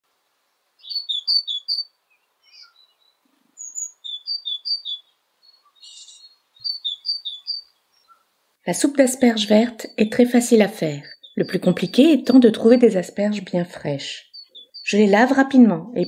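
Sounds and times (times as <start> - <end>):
songbird chirping: 0.1 - 16.0.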